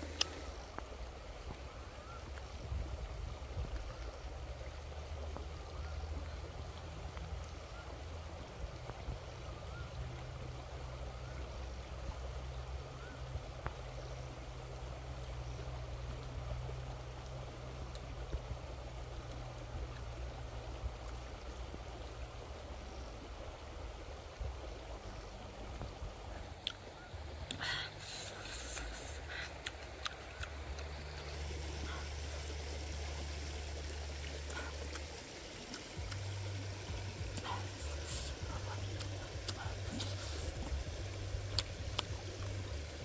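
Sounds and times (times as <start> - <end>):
rushing outdoor background noise: 0.0 - 43.0.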